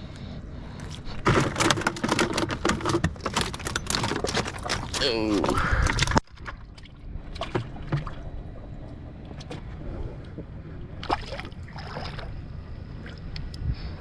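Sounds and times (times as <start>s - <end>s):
steady low rumble: 0.0s - 14.0s
water lapping against boat hull: 1.0s - 12.4s.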